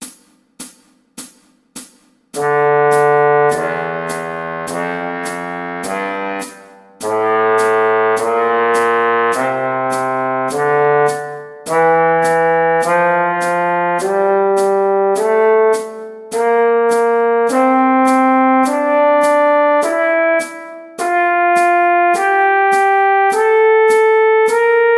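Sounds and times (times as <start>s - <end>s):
metronome clicking: 0.0s - 24.9s
trombone playing long notes: 2.4s - 24.9s.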